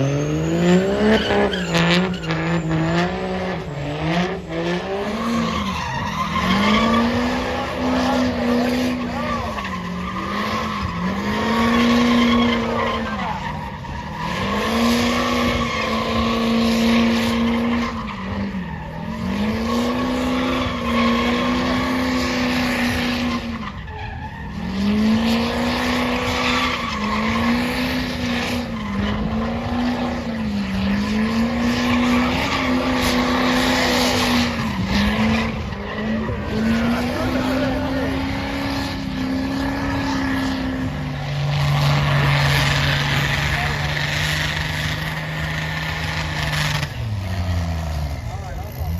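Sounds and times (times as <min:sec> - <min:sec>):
tires squealing: 0:00.0 - 0:48.9
truck engine revving: 0:00.0 - 0:48.9.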